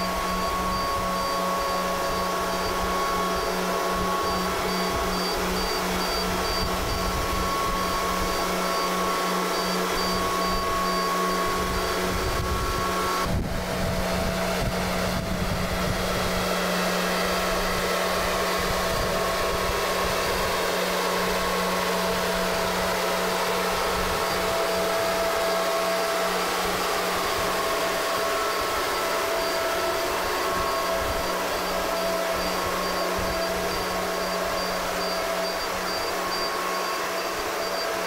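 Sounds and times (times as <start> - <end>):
faint whines: 0.0 - 38.0
mechanical drone: 0.0 - 38.0.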